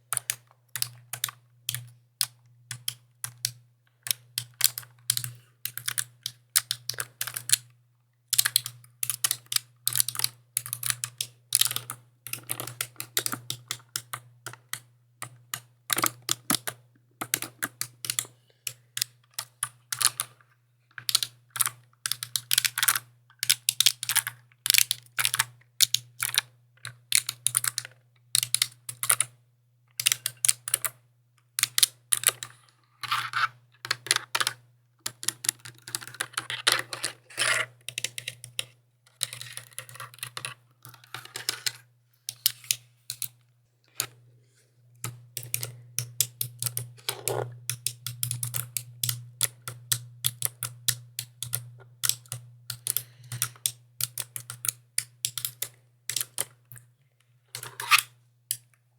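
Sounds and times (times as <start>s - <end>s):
mechanical keyboard typing: 0.1s - 7.7s, 8.3s - 20.4s, 21.0s - 29.4s, 30.0s - 31.0s, 31.6s - 43.4s, 45.0s - 56.8s.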